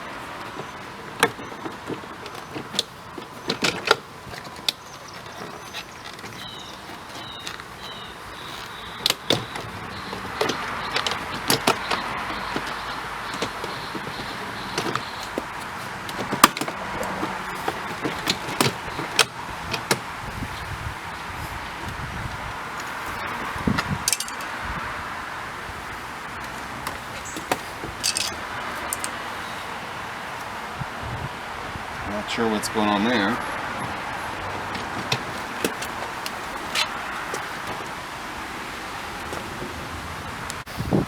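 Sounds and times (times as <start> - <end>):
plastic rubbing and scraping: 0.0 - 24.6, 25.7 - 29.7, 32.8 - 41.0.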